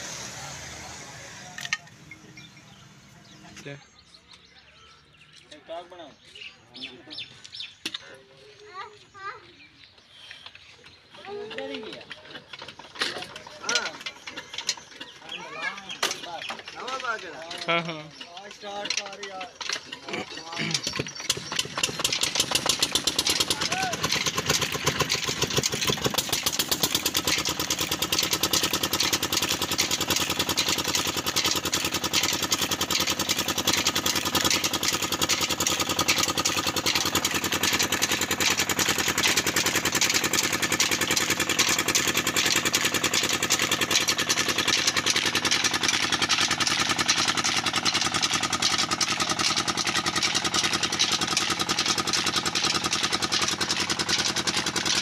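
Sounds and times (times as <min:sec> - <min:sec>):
old diesel engine running: 0:00.0 - 0:55.0.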